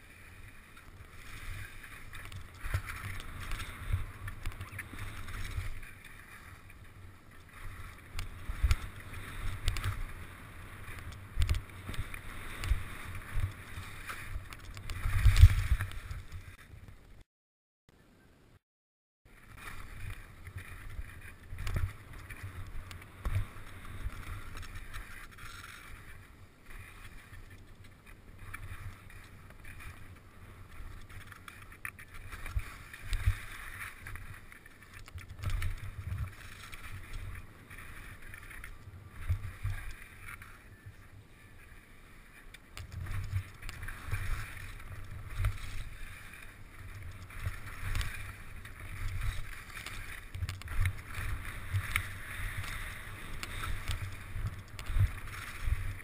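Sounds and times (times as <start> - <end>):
skis scraping over snow: 0.0 - 16.7, 19.3 - 56.0.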